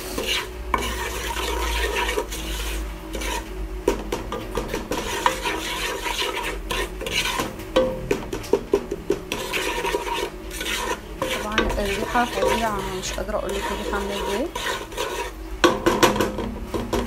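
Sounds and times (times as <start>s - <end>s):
butter and oil frying: 0.0s - 17.0s
spoon stirring and scraping pot: 0.0s - 17.0s.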